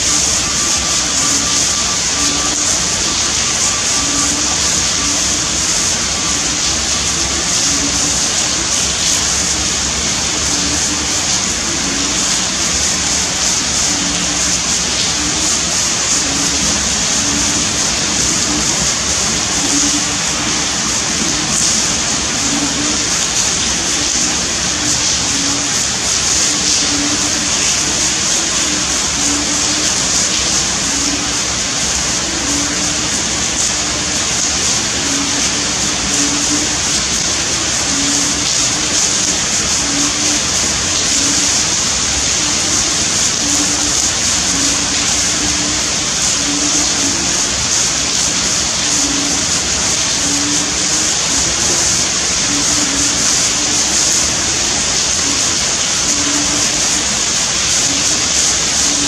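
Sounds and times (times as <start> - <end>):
torrential rain pouring: 0.0 - 59.0.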